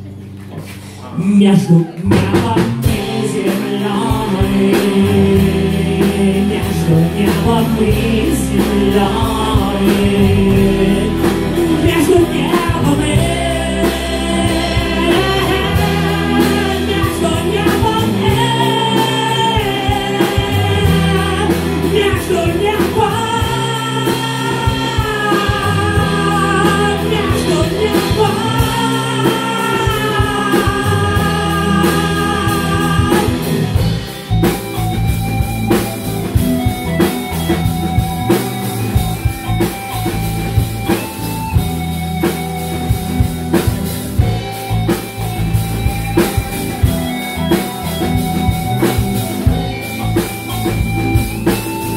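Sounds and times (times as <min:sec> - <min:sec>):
live rock band playing: 0:00.0 - 0:51.9
held wavering melody notes: 0:08.0 - 0:51.9.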